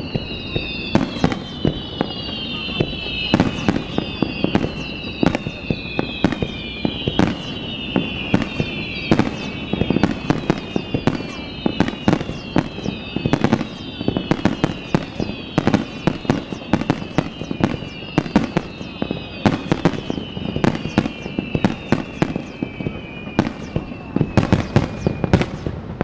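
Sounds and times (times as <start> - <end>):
falling firework whistles: 0.0 - 26.0
firework bangs: 0.0 - 26.0.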